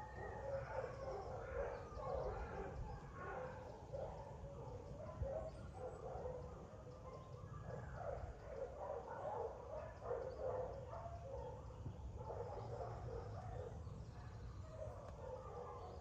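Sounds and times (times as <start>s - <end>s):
dogs barking: 0.0s - 16.0s.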